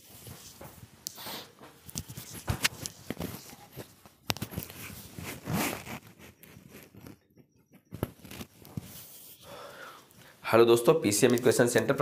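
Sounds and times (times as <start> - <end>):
rustling and handling noise: 0.0 - 12.0.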